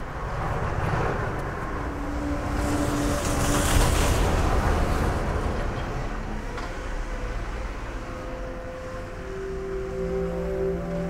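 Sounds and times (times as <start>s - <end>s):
steady whine: 0.0s - 11.0s.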